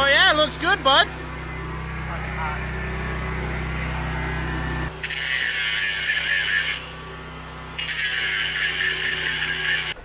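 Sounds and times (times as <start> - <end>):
low machine hum: 0.0 - 10.0
power tool cutting metal: 0.0 - 10.0.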